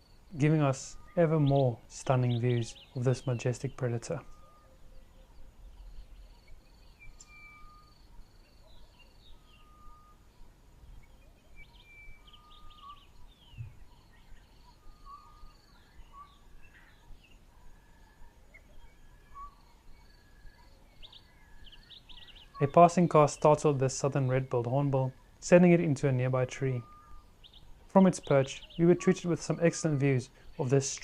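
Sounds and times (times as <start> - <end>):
birds whistling and chirping: 0.0 - 10.2, 10.8 - 31.0.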